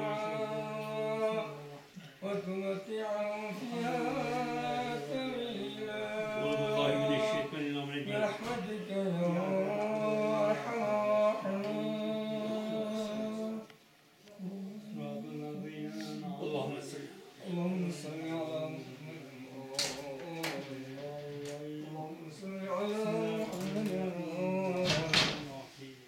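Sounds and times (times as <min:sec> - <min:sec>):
man chanting into microphone: 0:00.0 - 0:13.7, 0:14.4 - 0:26.0.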